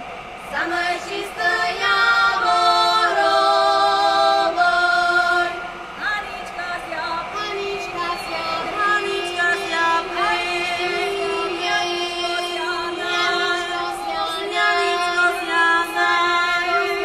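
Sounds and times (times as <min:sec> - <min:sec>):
women singing in harmony: 0:00.4 - 0:17.0.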